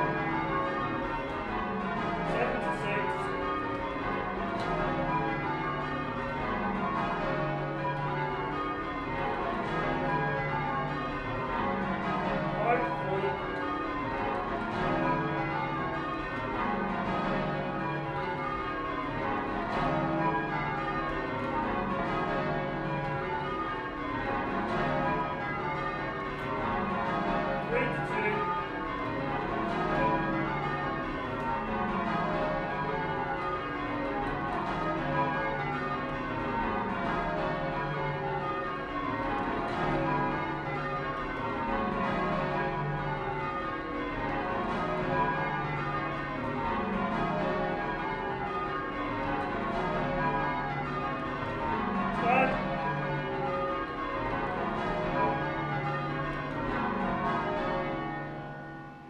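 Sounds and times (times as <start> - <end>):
church bells ringing changes: 0.0 - 59.0.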